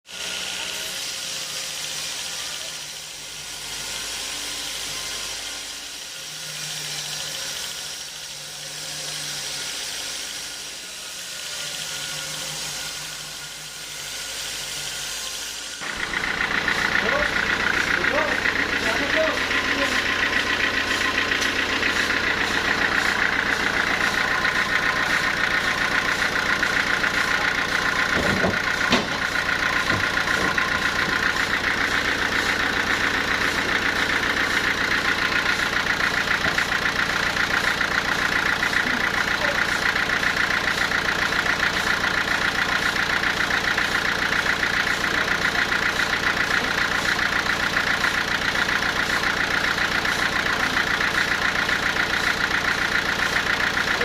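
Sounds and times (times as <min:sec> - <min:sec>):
sawmill machinery running: 0:00.1 - 0:54.0.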